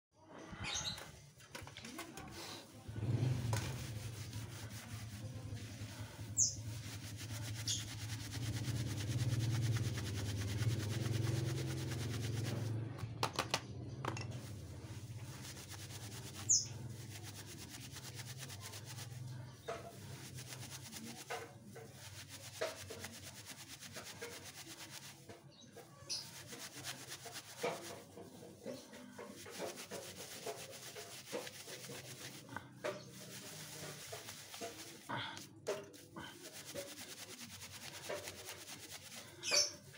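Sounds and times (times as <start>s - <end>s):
hands rubbing dry fibre: 1.9s - 12.9s, 14.3s - 39.9s.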